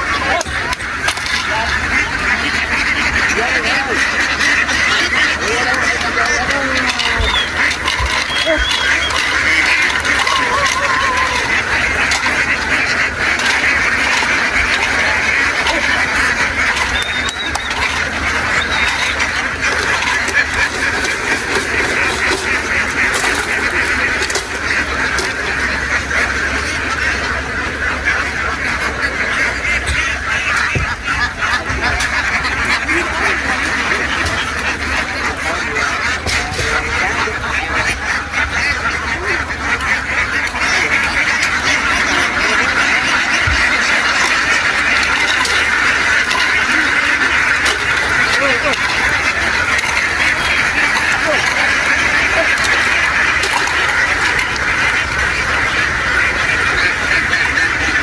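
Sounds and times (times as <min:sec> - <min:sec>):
flock of ducks quacking: 0:00.0 - 0:58.0.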